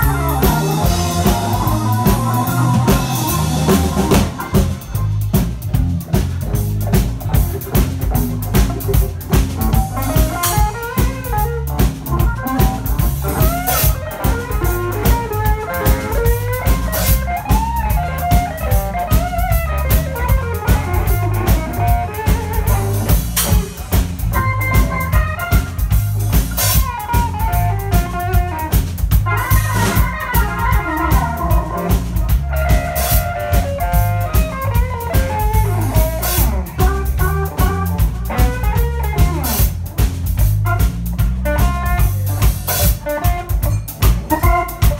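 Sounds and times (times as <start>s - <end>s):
electric guitar solo: 0.0s - 5.1s, 6.9s - 39.6s, 41.5s - 44.9s
blues band playing: 0.0s - 44.9s.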